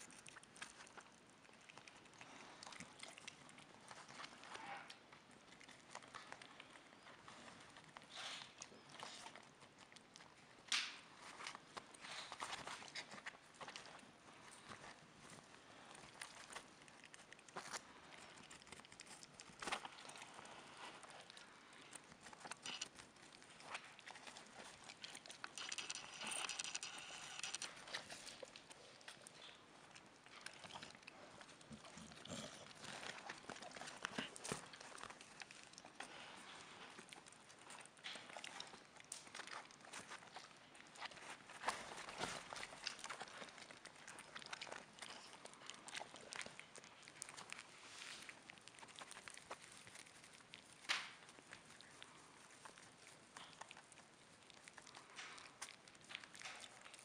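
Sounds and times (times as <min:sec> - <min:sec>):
porcupines gnawing and chewing: 0:00.0 - 0:57.0.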